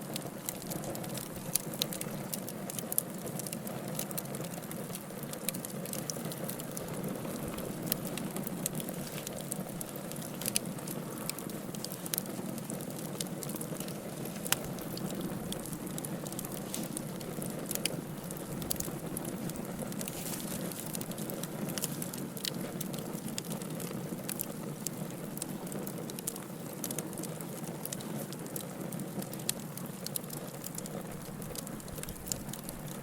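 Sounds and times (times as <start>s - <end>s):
fire crackling and popping: 0.0s - 33.0s
low rush of flames: 0.0s - 33.0s.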